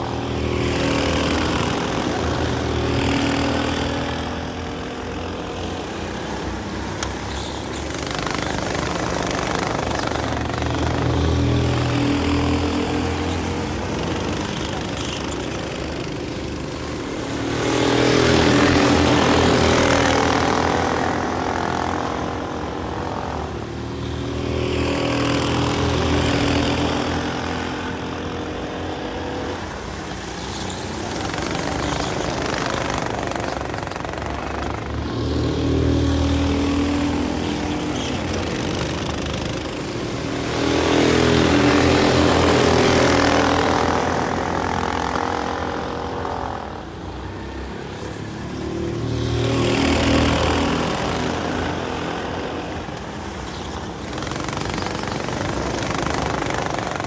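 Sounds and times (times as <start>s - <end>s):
go-kart engines buzzing: 0.0s - 57.0s.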